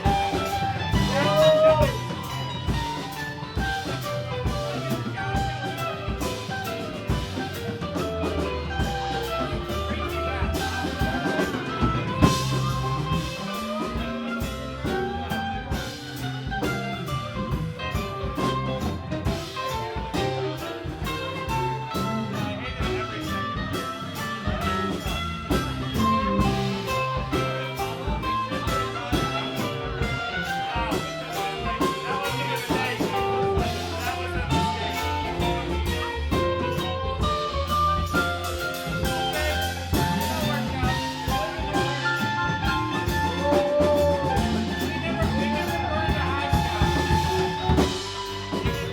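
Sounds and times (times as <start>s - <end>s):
live blues-rock band: 0.0s - 48.9s.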